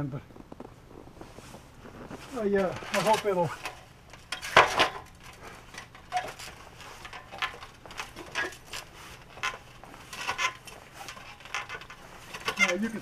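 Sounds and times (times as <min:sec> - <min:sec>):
clothing rustle: 0:00.4 - 0:13.0.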